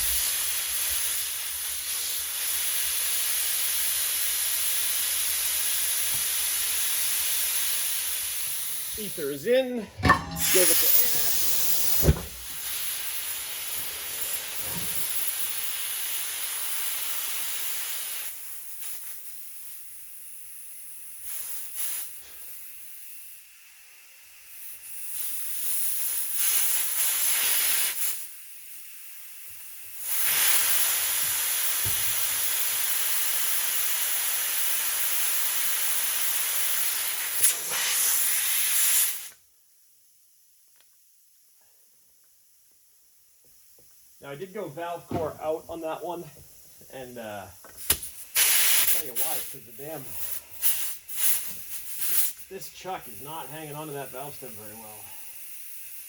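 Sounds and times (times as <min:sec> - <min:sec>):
compressed air hissing: 0:00.0 - 0:39.4, 0:43.8 - 0:56.0.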